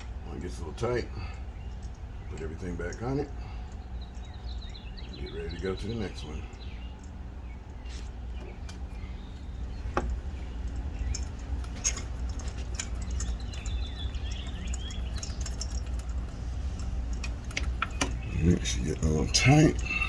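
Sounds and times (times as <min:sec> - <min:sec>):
bird chirping: 0:00.0 - 0:20.0
low outdoor rumble: 0:00.0 - 0:20.0.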